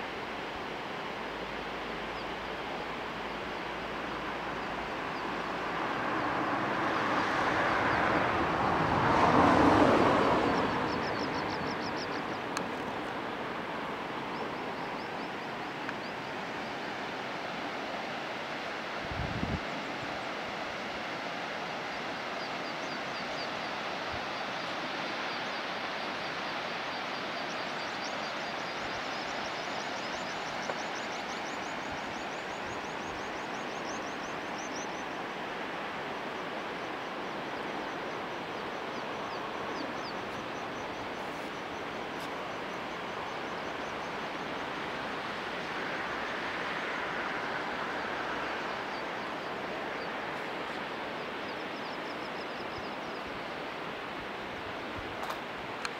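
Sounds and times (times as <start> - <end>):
steady rushing hiss: 0.0 - 55.9.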